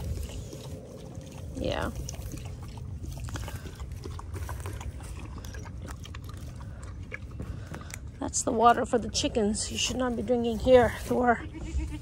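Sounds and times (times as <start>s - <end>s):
dog lapping water: 0.0s - 10.7s.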